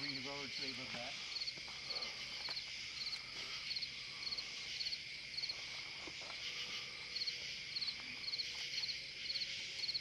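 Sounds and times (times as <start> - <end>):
insect chorus hiss: 0.0 - 10.0.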